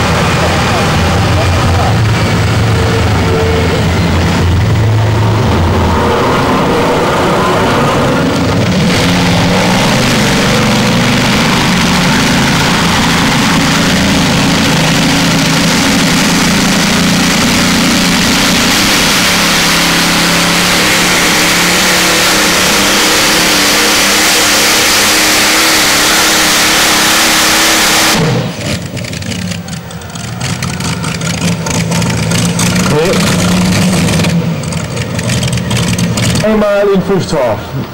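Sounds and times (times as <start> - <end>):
tractor engine running flat out: 0.0 - 37.9.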